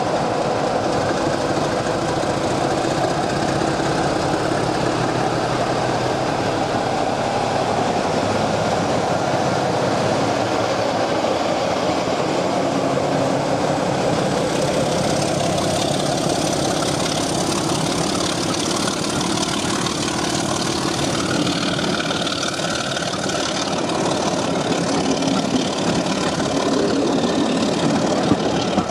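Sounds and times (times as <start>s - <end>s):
diesel locomotive engine idling: 0.0s - 28.9s.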